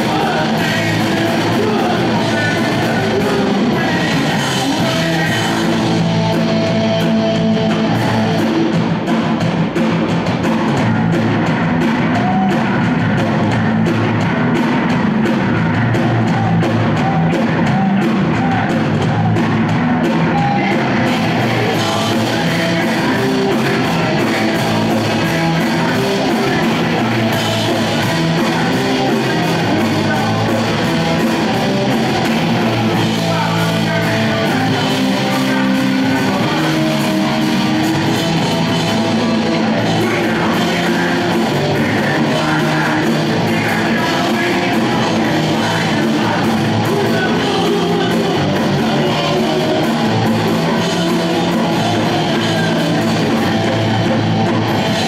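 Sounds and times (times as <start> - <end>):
shouted vocals: 0.0 - 8.8, 11.8 - 13.3, 15.4 - 55.0
bass guitar: 0.0 - 55.0
distorted electric guitar: 0.0 - 55.0
drum kit: 0.0 - 55.0.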